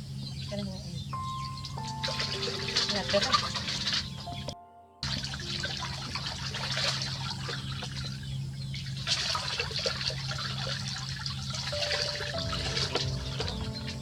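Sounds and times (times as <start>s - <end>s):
steady low hum: 0.0s - 14.0s
water running and splashing: 1.8s - 14.0s.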